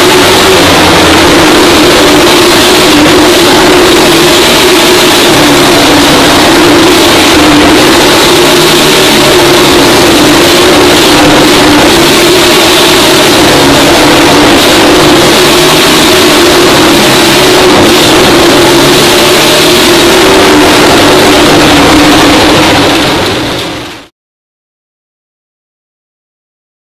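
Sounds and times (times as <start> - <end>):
motorcycle engine running hard: 0.0 - 24.1.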